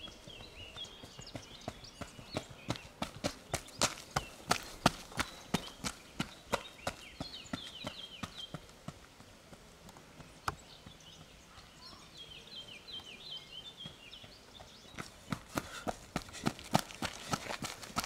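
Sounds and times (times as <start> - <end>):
small bird singing: 0.0 - 8.8, 10.0 - 18.0
running footsteps on gravel: 0.0 - 18.0.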